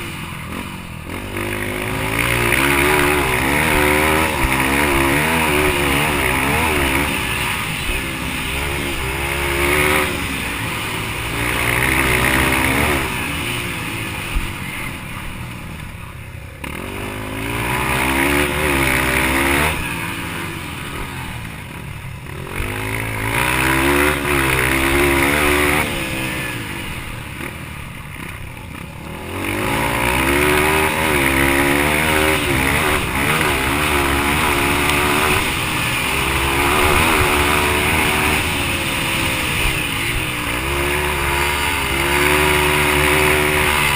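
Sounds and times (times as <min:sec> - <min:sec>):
dirt bike engine revving through gears: 0:00.0 - 0:43.9.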